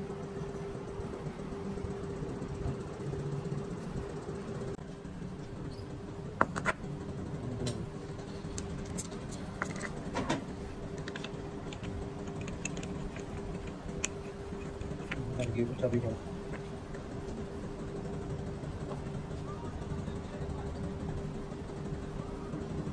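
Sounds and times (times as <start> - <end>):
machine hum with held tone: 0.0 - 22.9.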